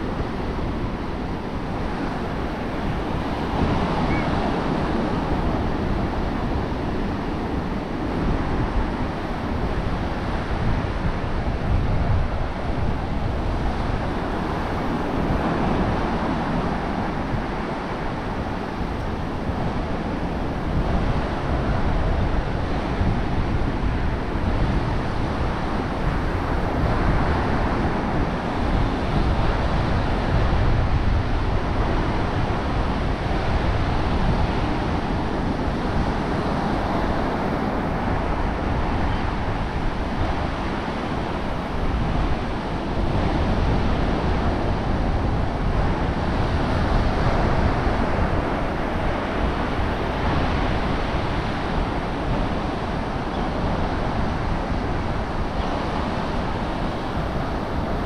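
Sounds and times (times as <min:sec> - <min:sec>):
ocean surf washing on beach: 0:00.0 - 0:58.0
wind buffeting microphone: 0:00.0 - 0:58.0.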